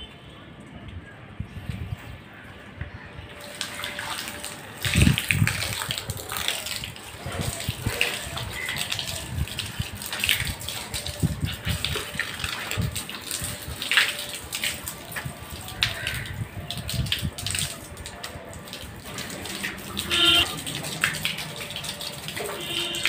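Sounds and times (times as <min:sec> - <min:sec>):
water splashing onto concrete floor: 0:01.6 - 0:23.0.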